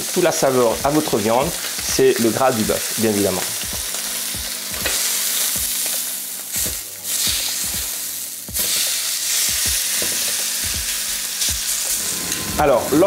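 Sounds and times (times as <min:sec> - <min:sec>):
meat sizzling on a grill pan: 0:00.0 - 0:12.5.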